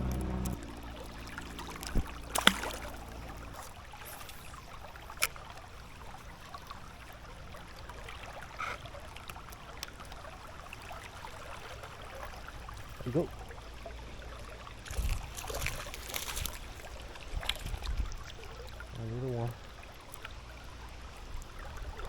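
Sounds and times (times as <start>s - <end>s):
river water running: 0.0s - 22.0s.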